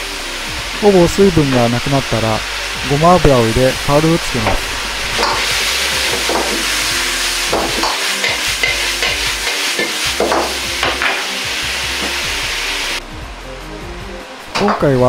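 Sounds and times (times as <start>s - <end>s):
food sizzling in a wok: 0.0s - 14.7s
gas flame roaring: 0.0s - 14.7s.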